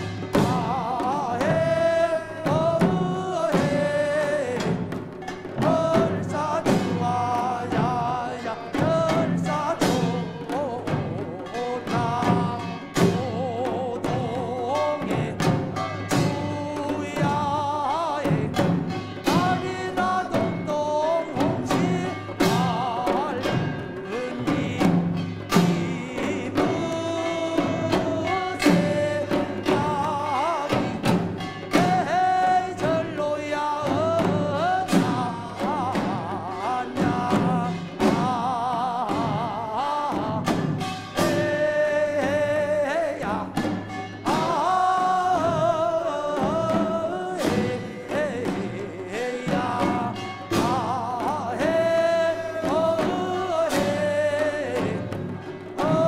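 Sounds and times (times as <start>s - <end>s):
barrel drums beating: 0.0s - 56.0s
folk song sung with vibrato: 0.0s - 56.0s.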